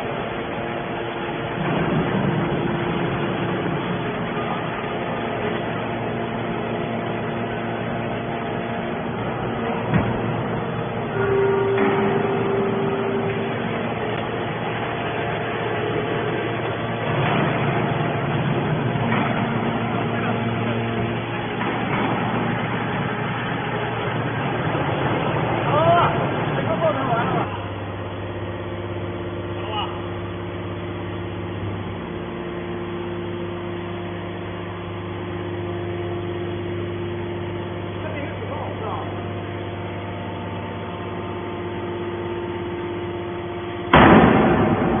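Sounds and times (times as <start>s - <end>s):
baler machine drone: 0.0s - 45.0s
strong machine hum: 0.0s - 45.0s.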